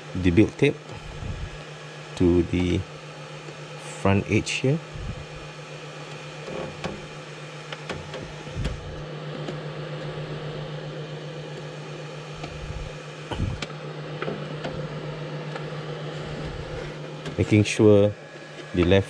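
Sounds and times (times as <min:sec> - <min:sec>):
printer fan humming: 0:00.0 - 0:19.0.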